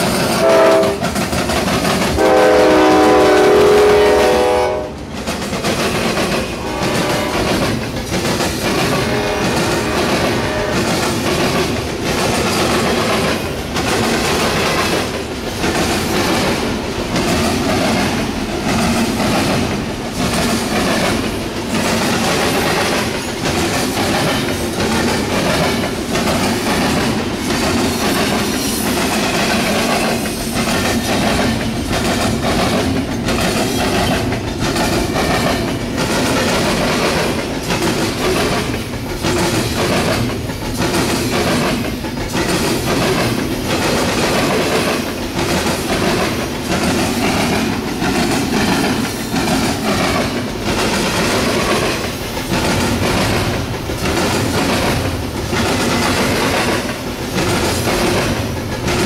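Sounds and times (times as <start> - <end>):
train wheels clattering: 0.0 - 59.0.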